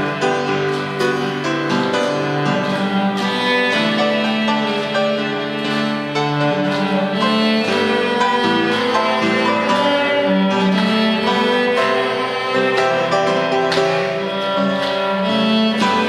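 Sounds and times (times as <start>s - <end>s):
cello bowed notes: 0.0s - 16.0s
piano accompanying: 0.0s - 16.0s.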